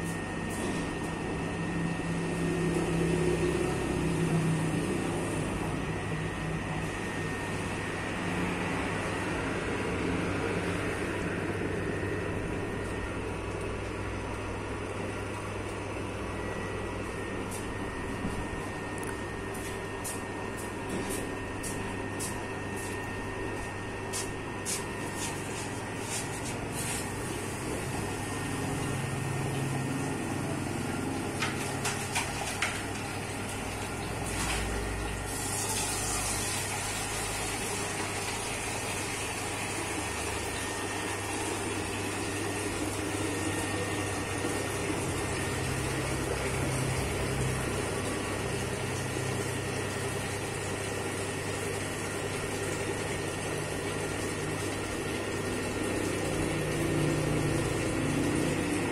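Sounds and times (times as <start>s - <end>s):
dough kneading machine motor hum: 0.0s - 58.9s.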